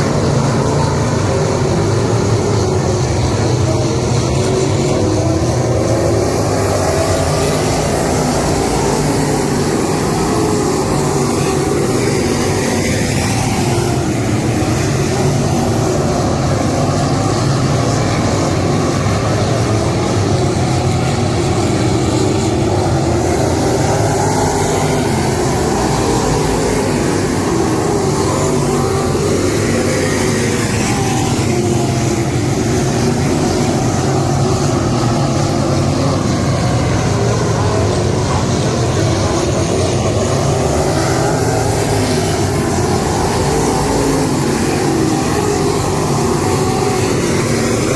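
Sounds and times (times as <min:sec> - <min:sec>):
cars sweeping past: 0:00.0 - 0:47.9
race car engines: 0:00.0 - 0:47.9.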